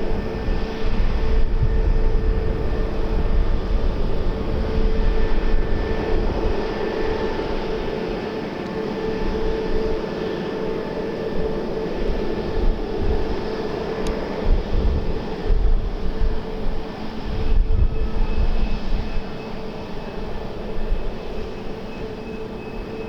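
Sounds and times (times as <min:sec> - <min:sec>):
aircraft engines whining: 0:00.0 - 0:23.0
wind buffeting microphone: 0:00.0 - 0:23.0.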